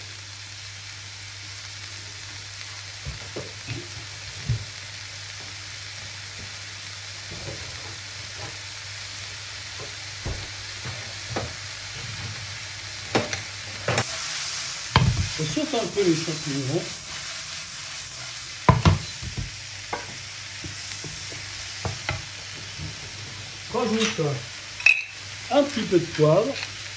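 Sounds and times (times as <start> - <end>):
vegetables sizzling in a frying pan: 0.0 - 26.9.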